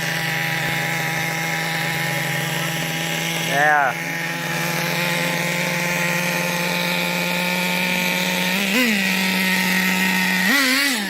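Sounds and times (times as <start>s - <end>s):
small nitro engine revving: 0.0s - 11.0s.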